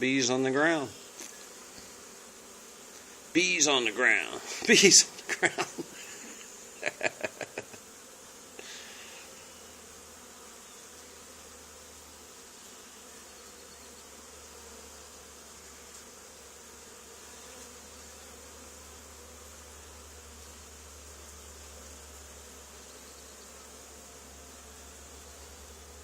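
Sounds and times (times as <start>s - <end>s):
bee swarm buzzing: 0.0s - 26.0s.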